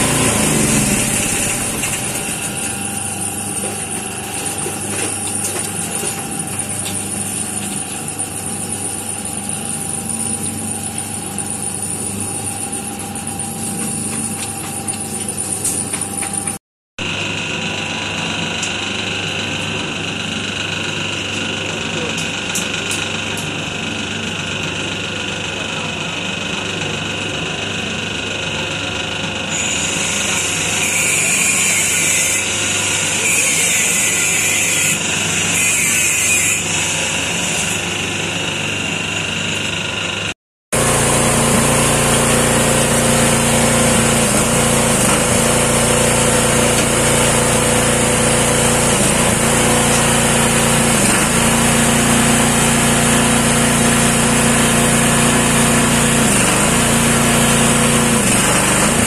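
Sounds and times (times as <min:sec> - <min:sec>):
dough mixer humming: 0:00.0 - 0:59.0.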